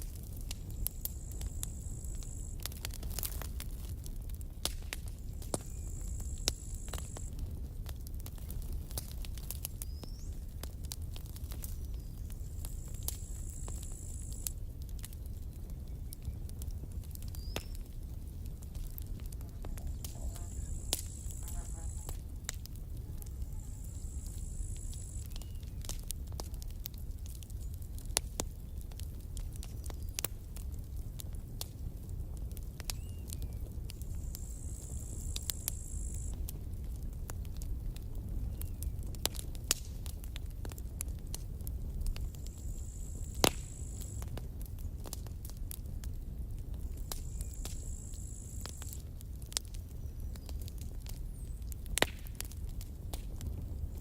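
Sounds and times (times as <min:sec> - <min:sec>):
campfire crackling and popping: 0:00.0 - 0:54.0
low rumble of burning fire: 0:00.0 - 0:54.0.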